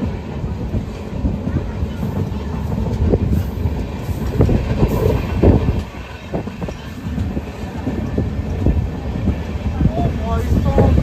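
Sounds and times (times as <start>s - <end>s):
train rumble on track: 0.0s - 11.0s
wheels clattering and knocking: 0.0s - 11.0s.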